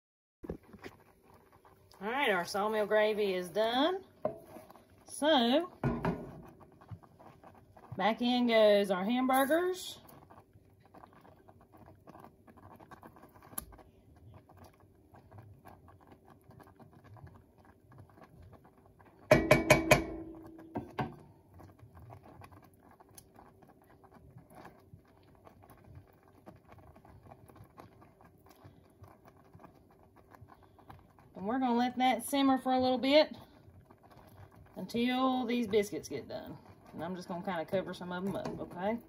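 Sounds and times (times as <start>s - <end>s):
gravy simmering with pops: 0.4s - 39.0s.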